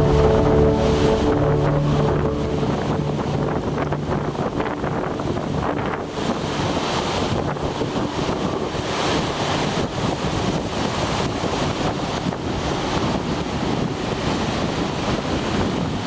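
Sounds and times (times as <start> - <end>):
sea waves washing in: 0.0 - 13.0.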